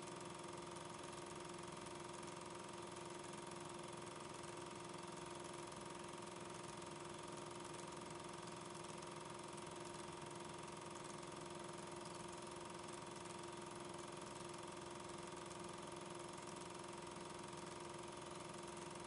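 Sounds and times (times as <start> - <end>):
machine hum with hiss: 0.0 - 19.0.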